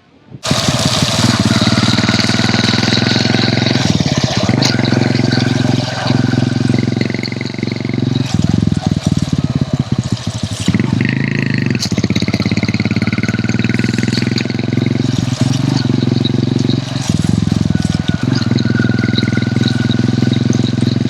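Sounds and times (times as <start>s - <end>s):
motorcycle engine running: 0.4s - 21.0s.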